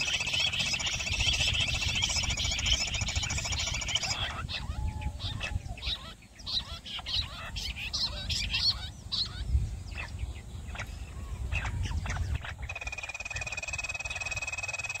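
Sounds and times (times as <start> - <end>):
quail calling: 0.0 - 10.1, 10.7 - 15.0.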